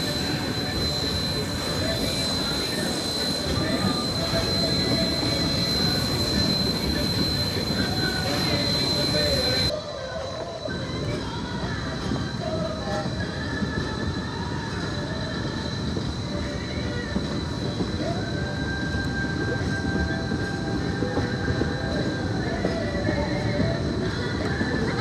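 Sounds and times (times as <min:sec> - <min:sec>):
high wheel squeal: 0:00.0 - 0:25.0
train rumbling and rattling: 0:00.0 - 0:25.0.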